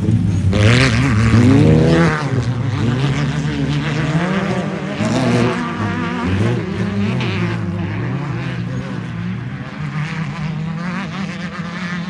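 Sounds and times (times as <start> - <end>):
race vehicle engine revving: 0.0 - 12.0.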